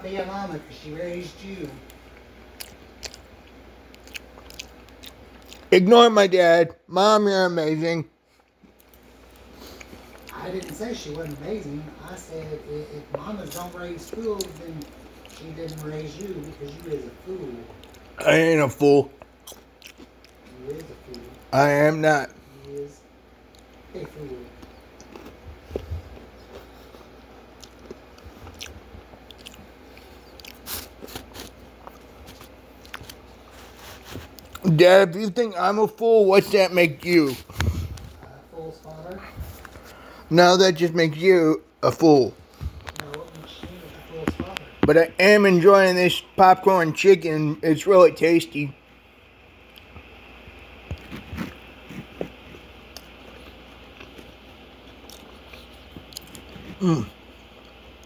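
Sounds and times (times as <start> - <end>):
chewing crispy fried food: 1.0 - 5.8, 8.3 - 21.7, 22.3 - 41.3, 41.9 - 45.5, 48.4 - 58.0.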